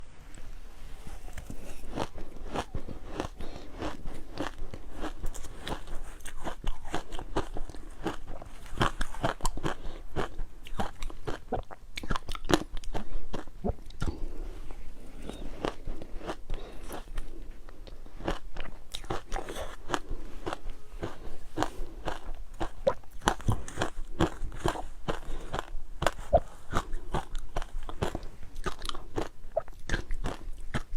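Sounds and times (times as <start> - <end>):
ice being chewed: 1.1 - 30.9.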